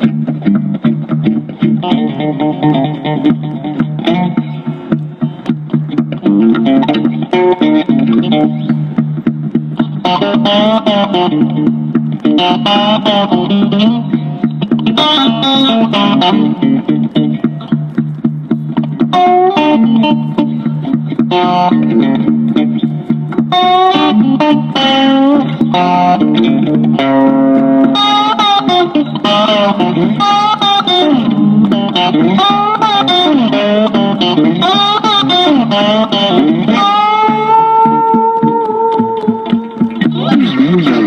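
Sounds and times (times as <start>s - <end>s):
electric guitar melody with bends: 0.0s - 41.0s.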